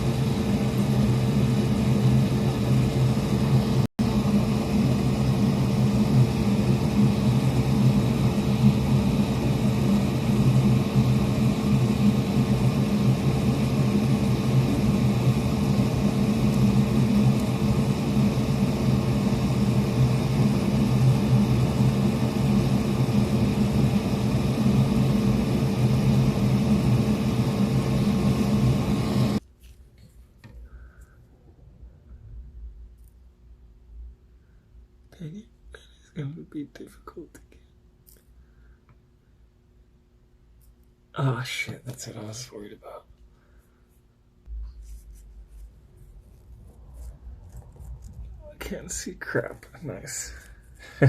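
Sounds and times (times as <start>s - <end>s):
electric fan whirring: 0.0s - 51.0s.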